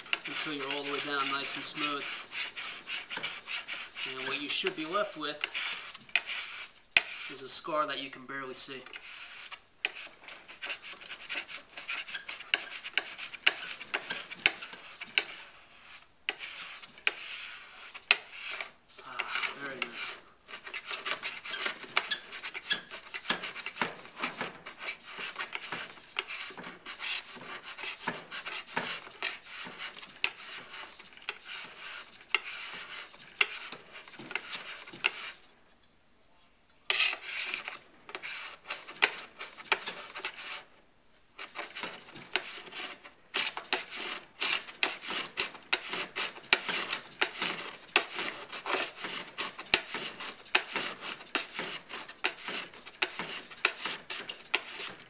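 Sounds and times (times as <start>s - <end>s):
metal scraper scraping snowboard base: 0.0s - 7.7s, 8.4s - 35.4s, 36.9s - 40.7s, 41.4s - 55.0s.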